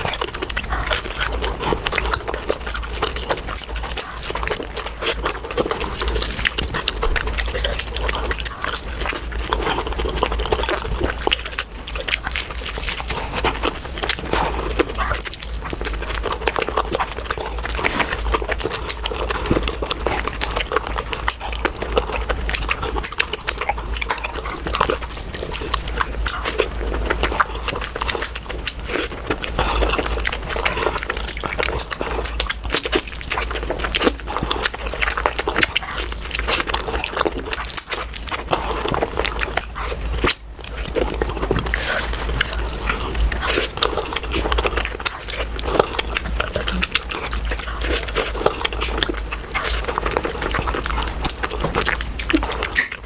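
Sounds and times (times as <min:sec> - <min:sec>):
wet chewing and lip-smacking: 0:00.0 - 0:53.0.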